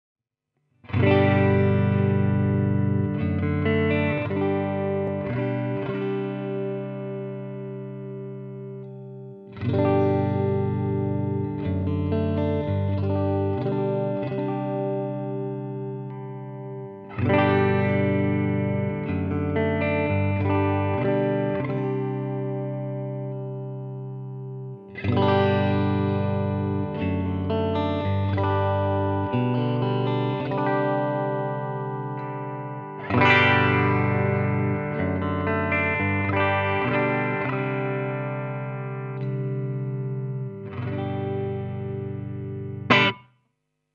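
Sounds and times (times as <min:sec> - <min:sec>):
electric guitar chords ringing: 0:00.8 - 0:43.3.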